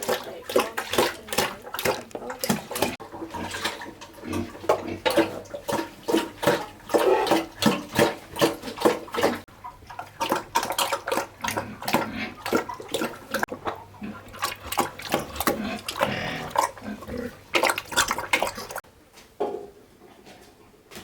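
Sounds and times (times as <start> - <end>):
water splashing in a basin: 0.0 - 18.8.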